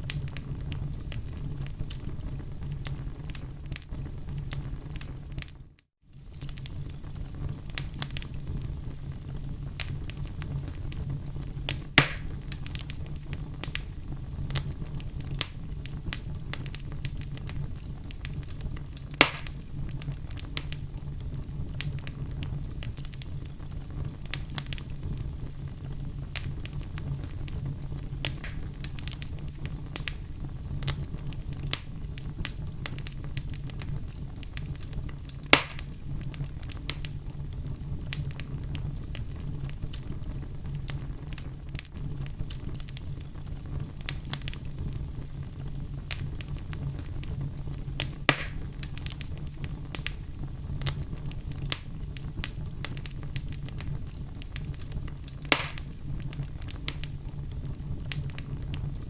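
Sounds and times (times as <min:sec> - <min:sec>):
fire crackling: 0:00.0 - 0:59.0
fire rumbling: 0:00.0 - 0:59.0
sharp wood fire pops: 0:00.0 - 0:59.0.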